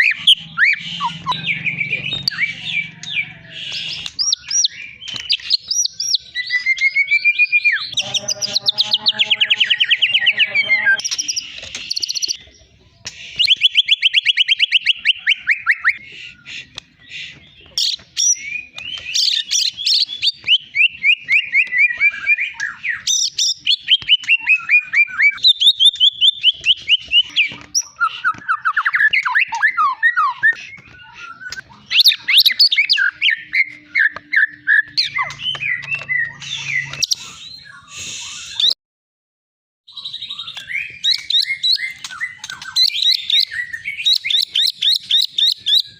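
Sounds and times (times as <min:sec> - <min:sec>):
songbird singing trills: 0:00.0 - 0:38.8, 0:39.9 - 0:45.9.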